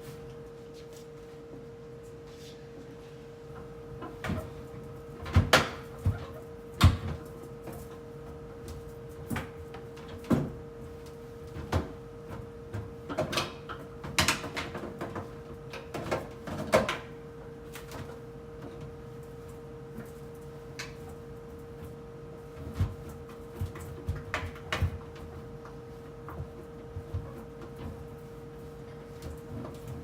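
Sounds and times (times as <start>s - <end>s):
refrigerator hum: 0.0s - 30.0s.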